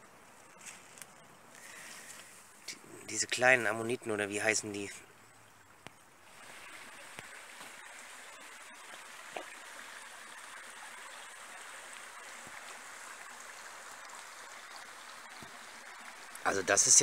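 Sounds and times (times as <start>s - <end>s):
brook water rushing: 1.6s - 17.0s.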